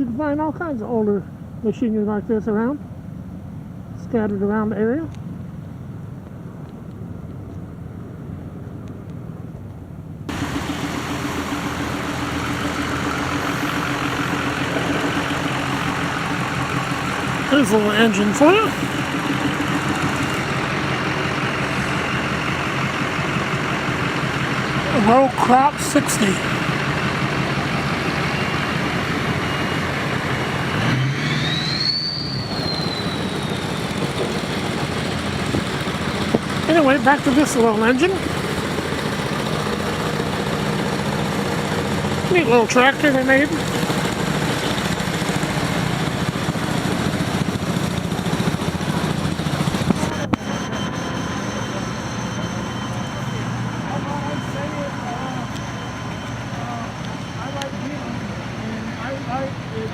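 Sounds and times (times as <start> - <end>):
high whine: 10.3 - 59.9
small engine running: 10.3 - 59.9.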